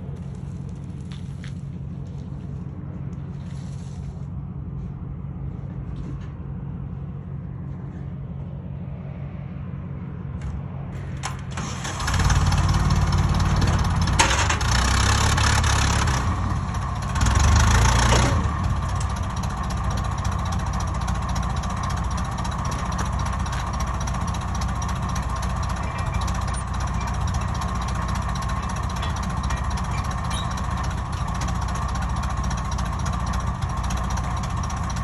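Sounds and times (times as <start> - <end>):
engine idling and revving: 0.0 - 35.0.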